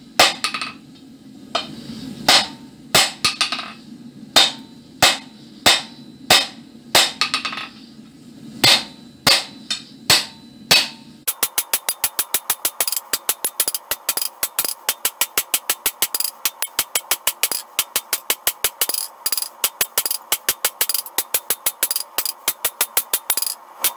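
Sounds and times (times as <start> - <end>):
hammer striking iron on anvil: 0.2 - 0.8, 2.3 - 3.8, 4.4 - 7.8, 8.6 - 23.9.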